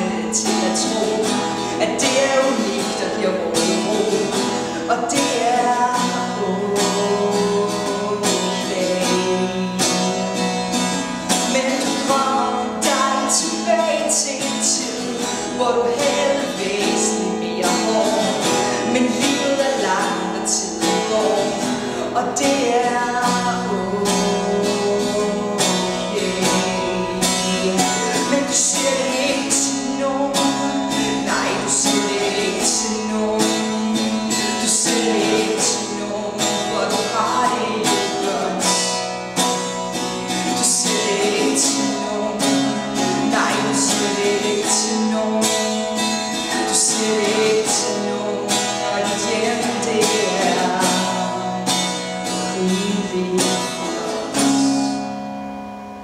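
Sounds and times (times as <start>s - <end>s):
woman singing: 0.0s - 39.5s, 40.3s - 55.1s
acoustic guitar strumming: 0.0s - 56.0s.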